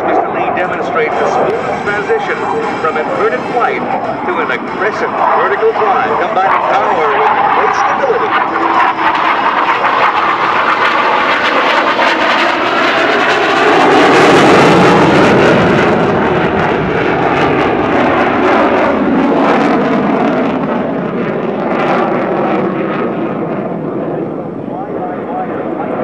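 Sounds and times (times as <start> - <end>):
jet engine roaring: 0.0 - 26.0.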